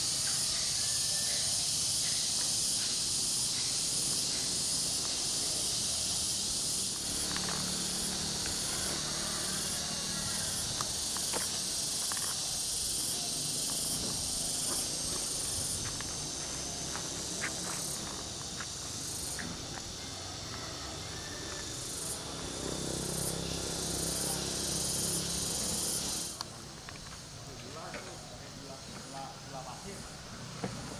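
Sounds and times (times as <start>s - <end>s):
insect chorus buzzing: 0.0s - 30.9s.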